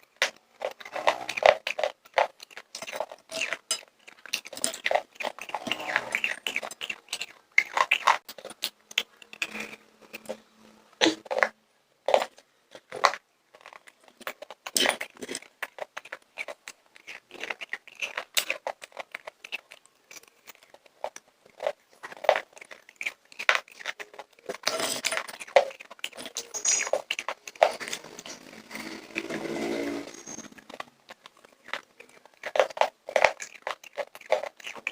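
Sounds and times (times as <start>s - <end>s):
popcorn being chewed: 0.0s - 34.9s.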